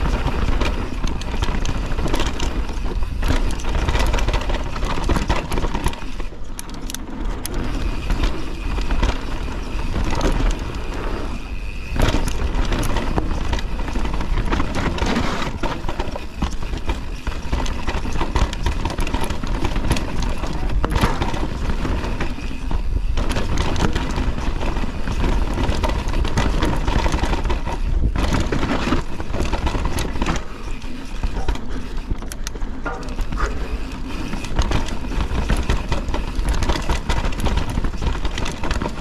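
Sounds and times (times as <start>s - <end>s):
bike clattering over bumps: 0.0s - 39.0s
bike tyres rolling over dirt and stones: 0.0s - 39.0s.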